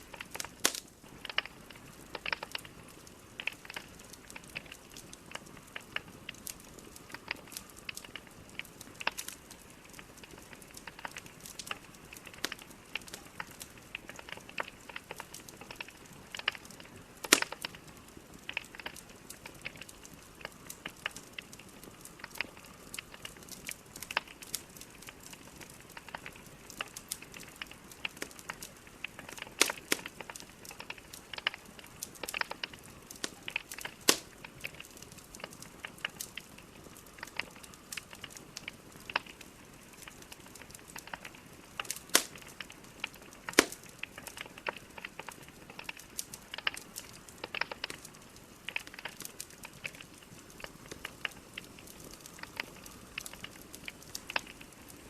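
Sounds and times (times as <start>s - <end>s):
logs crackling in a fireplace: 0.0s - 55.0s.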